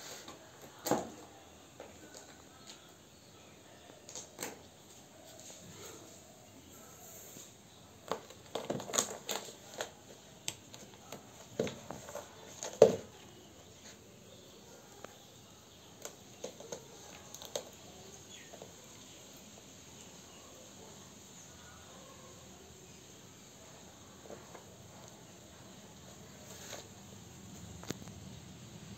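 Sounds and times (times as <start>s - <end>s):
faint steady background: 0.0s - 28.9s.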